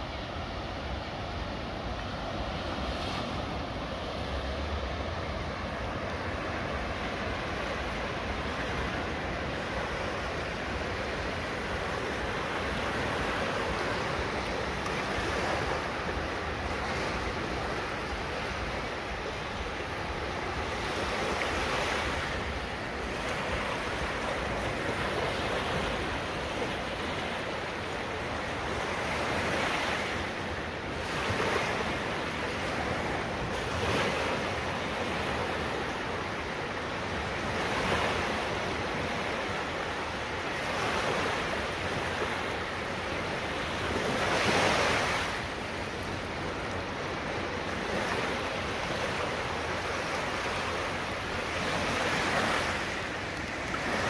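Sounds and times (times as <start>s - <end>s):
waves breaking on a beach: 0.0s - 54.0s.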